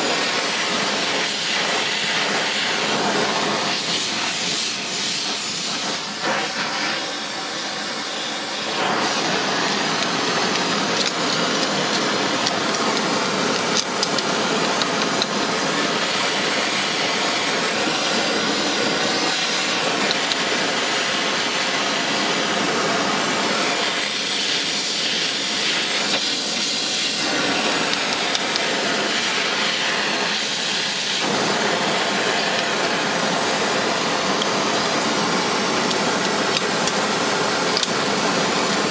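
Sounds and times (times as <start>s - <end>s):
gas torch flame hissing: 0.0s - 38.9s.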